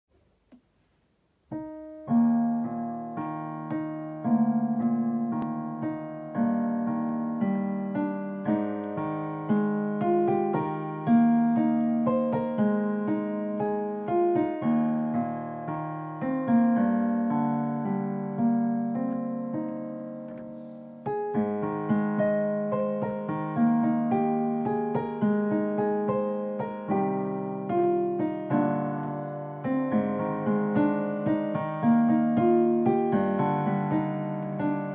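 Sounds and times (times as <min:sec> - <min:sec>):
solo piano piece: 0:01.3 - 0:34.9.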